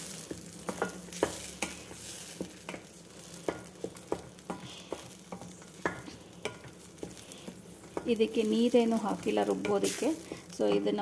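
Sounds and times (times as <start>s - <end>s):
faint sizzle of frying: 0.0s - 11.0s.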